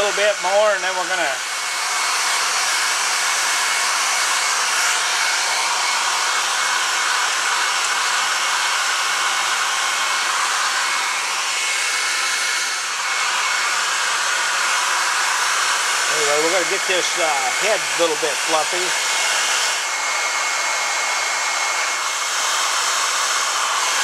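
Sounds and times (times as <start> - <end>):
hair dryer blowing: 0.0 - 24.0.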